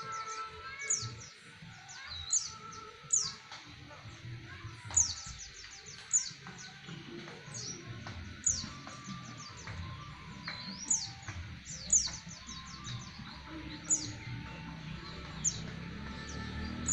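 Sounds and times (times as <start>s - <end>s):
bird singing rolling song: 0.0s - 16.9s.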